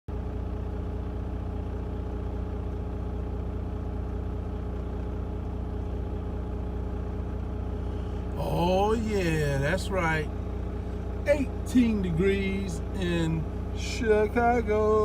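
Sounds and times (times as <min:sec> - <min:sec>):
diesel truck engine idling: 0:00.1 - 0:15.0.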